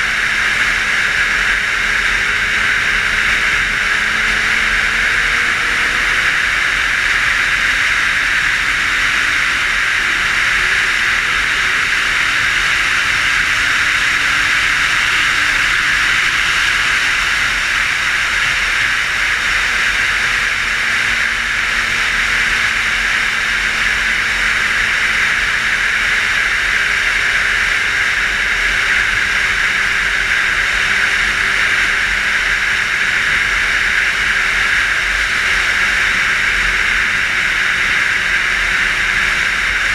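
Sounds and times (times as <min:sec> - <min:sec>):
motorcycle engine hum: 0:00.0 - 0:39.9.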